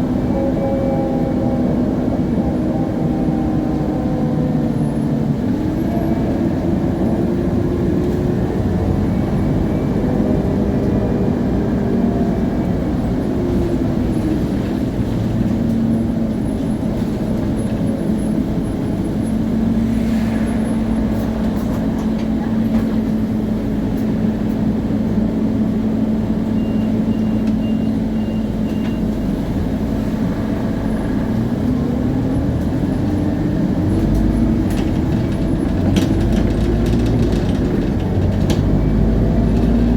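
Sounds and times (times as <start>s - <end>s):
diesel bus engine running: 0.0s - 39.9s
rear axle whine: 0.0s - 39.9s.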